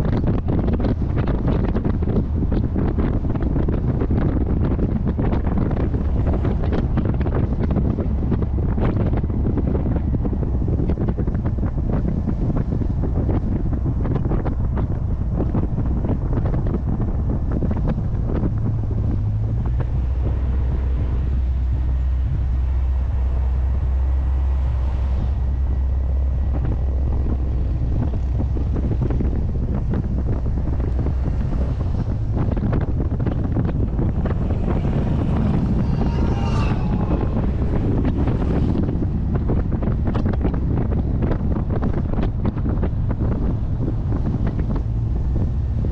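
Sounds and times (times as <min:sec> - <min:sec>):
car engine droning: 0:00.0 - 0:45.9
wind buffeting microphone: 0:00.0 - 0:45.9.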